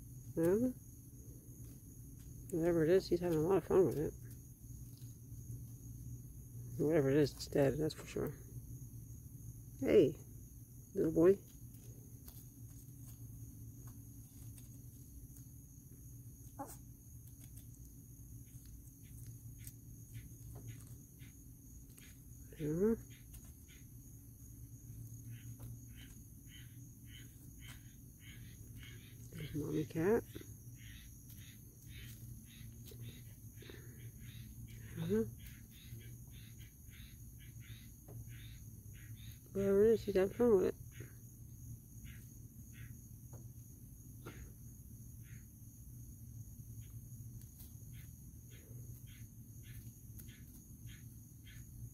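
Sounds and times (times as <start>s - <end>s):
crickets chirping: 0.0s - 51.9s
high-pitched insect trill: 0.0s - 51.9s
low steady hum: 0.0s - 51.9s.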